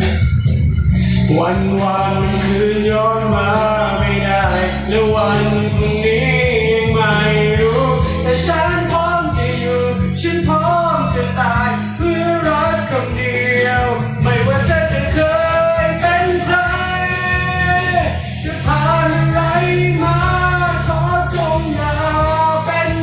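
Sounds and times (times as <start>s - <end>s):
rock song with guitar and singing: 0.0s - 23.0s.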